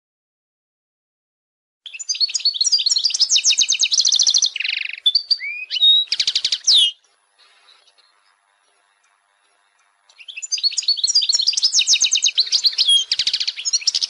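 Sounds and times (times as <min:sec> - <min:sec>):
goldfinch singing: 0:01.9 - 0:14.0.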